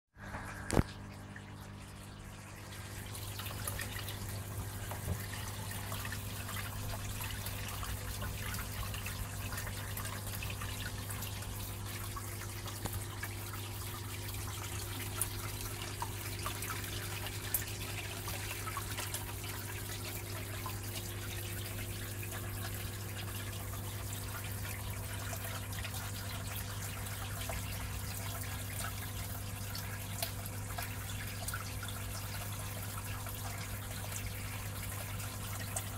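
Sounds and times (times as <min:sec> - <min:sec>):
aquarium filter pump humming: 0:00.2 - 0:35.9
water trickling and splashing: 0:00.2 - 0:35.9.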